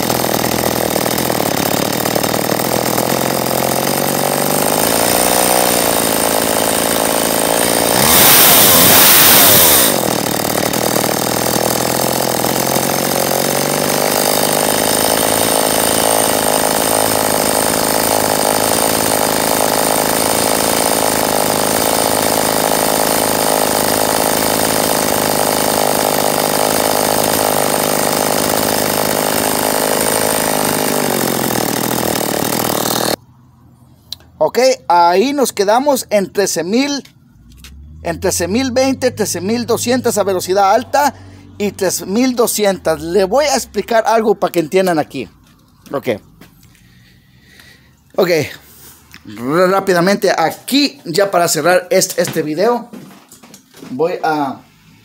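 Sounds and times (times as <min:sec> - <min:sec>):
chainsaw engine revving: 0:00.0 - 0:33.2, 0:35.2 - 0:50.4.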